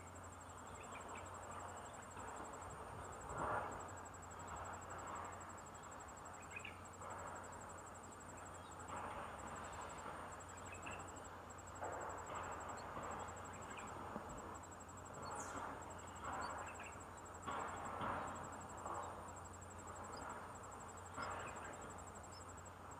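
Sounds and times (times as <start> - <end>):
high-pitched insect trill: 0.0 - 22.9.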